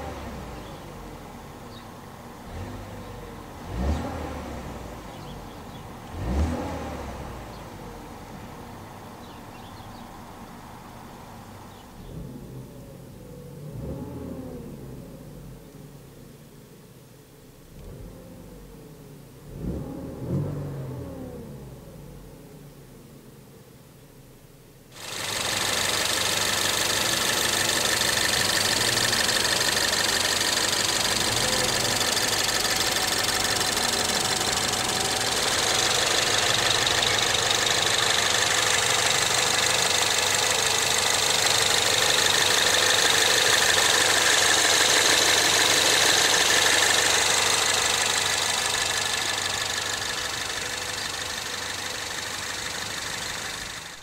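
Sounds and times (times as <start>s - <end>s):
car engine idling: 0.0s - 14.0s, 21.8s - 54.0s.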